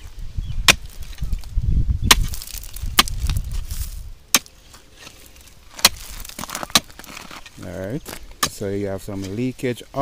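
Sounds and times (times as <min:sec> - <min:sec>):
digging tool chopping ground: 0:00.6 - 0:09.4.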